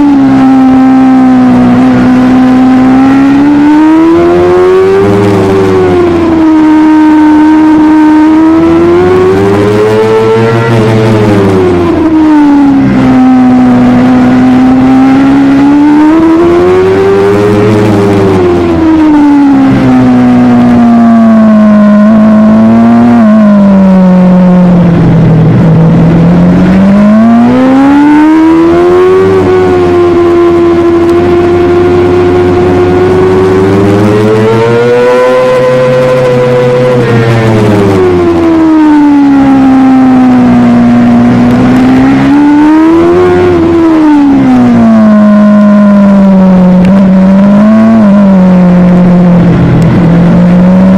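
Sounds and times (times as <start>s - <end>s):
motorcycle engine at high revs: 0.0s - 50.9s.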